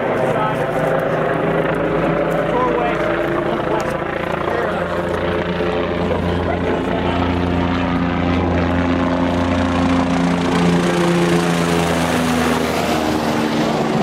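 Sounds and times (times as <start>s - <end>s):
helicopter passing overhead: 0.0s - 14.0s.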